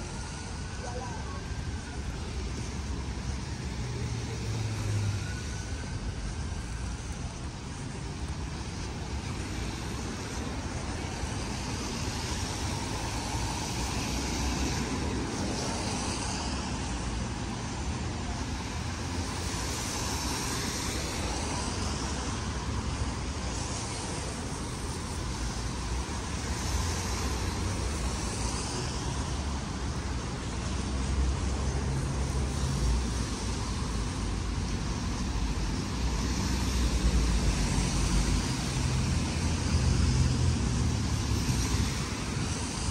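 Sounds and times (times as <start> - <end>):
rumble of cars: 0.0 - 42.9
tyres hissing on wet road: 0.0 - 42.9.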